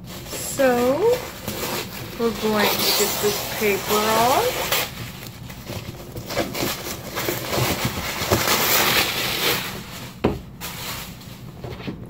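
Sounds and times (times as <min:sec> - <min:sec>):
paper wrapping crinkling: 0:00.0 - 0:12.0.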